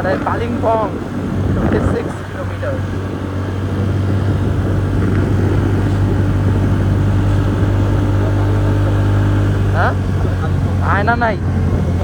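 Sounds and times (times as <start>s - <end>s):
road noise: 0.0s - 12.0s
scooter engine running: 0.0s - 12.0s
wind rush: 0.0s - 12.0s.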